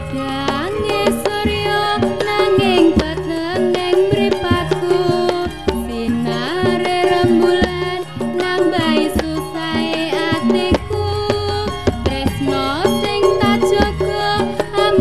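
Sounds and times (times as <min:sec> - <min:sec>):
hand drum rhythm: 0:00.0 - 0:15.0
ornamented melody line: 0:00.0 - 0:15.0.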